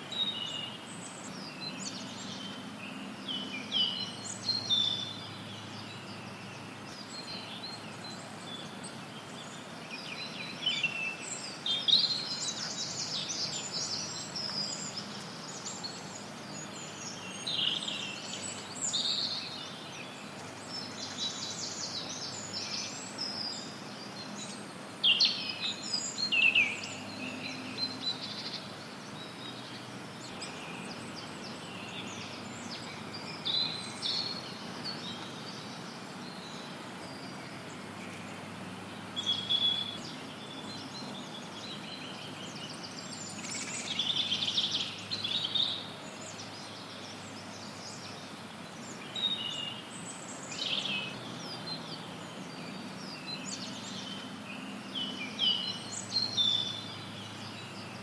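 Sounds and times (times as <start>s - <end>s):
songbirds singing and chirping: 0.0s - 58.0s
white noise hiss: 0.0s - 58.0s.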